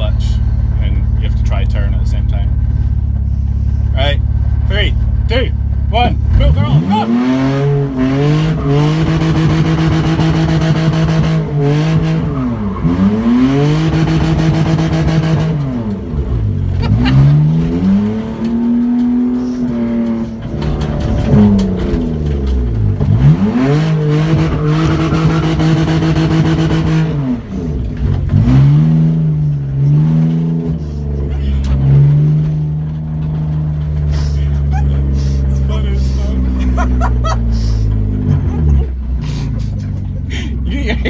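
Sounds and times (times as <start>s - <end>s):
car engine revving high: 3.6s - 39.8s.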